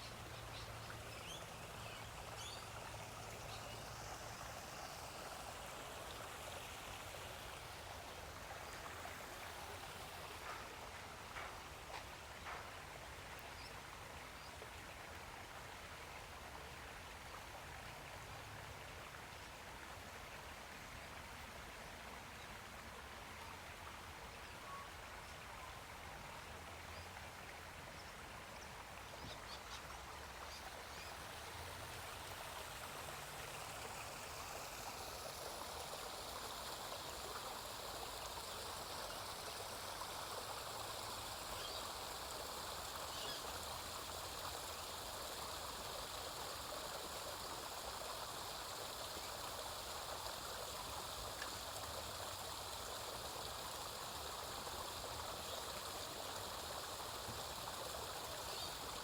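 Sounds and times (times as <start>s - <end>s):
water rushing in a stream: 0.0s - 59.0s.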